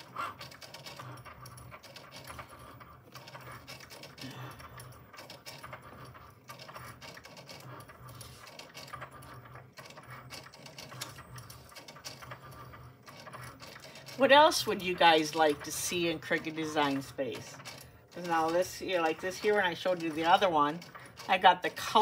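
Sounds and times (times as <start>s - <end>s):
cutting machine motors whirring: 0.0s - 22.0s.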